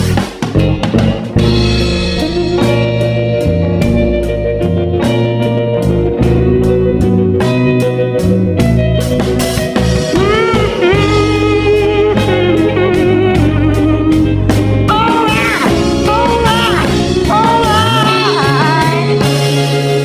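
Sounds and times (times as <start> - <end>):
bass and drums: 0.0 - 20.0
electric guitar lead: 0.0 - 20.0.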